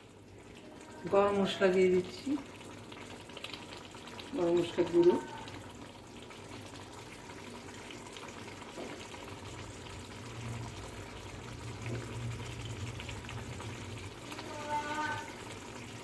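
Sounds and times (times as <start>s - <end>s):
curry bubbling and sizzling: 0.0s - 16.0s.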